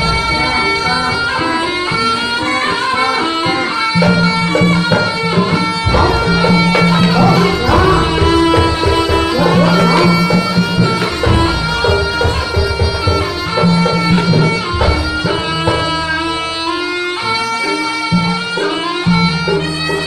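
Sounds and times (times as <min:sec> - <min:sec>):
drums: 0:00.0 - 0:16.7
reedy wind instrument melody: 0:00.0 - 0:20.0
sustained pitched percussion: 0:00.0 - 0:20.0.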